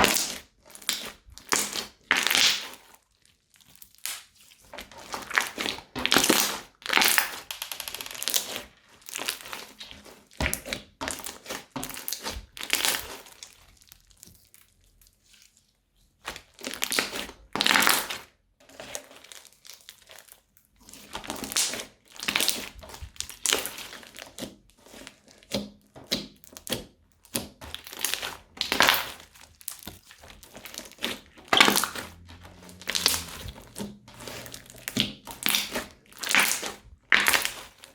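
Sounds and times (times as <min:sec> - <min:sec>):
crunchy slime crackling: 0:00.0 - 0:25.5, 0:26.3 - 0:37.9.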